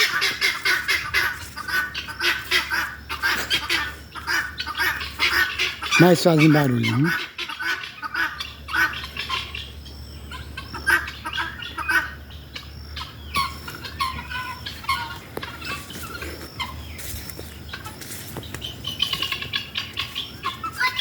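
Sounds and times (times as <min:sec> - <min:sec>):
guineafowl calling: 0:00.0 - 0:21.0.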